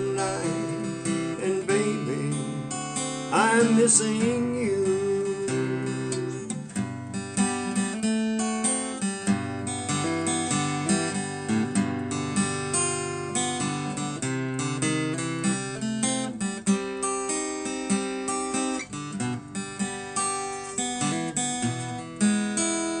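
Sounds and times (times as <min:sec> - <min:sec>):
strummed acoustic guitar blues: 0:00.0 - 0:23.0.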